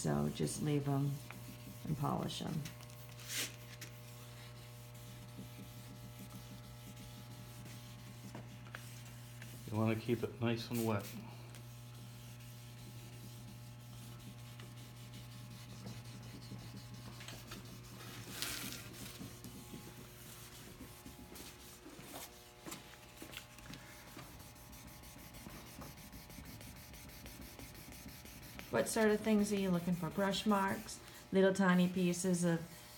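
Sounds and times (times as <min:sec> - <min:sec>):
steady low hum: 0:00.0 - 0:32.9
wet sandpaper rubbing: 0:00.4 - 0:22.4, 0:23.1 - 0:30.9.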